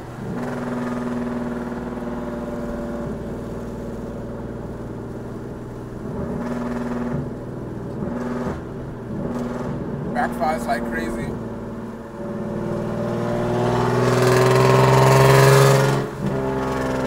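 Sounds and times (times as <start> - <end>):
car exhaust running: 0.0 - 17.0.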